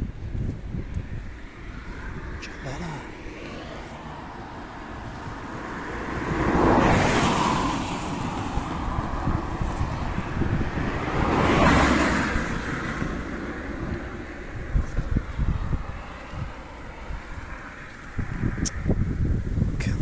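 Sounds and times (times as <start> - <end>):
vehicles passing on road: 0.0 - 20.0.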